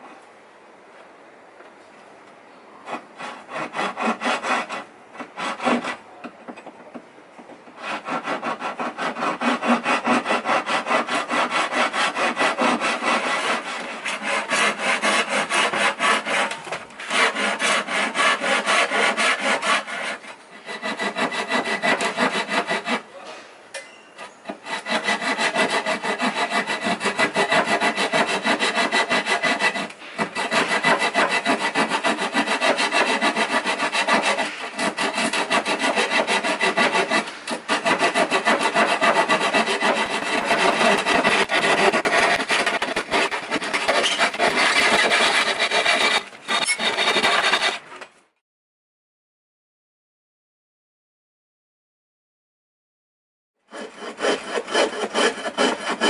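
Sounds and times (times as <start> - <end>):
hand saw cutting wood: 2.8 - 6.6, 7.7 - 23.2, 24.4 - 48.1, 53.7 - 56.0.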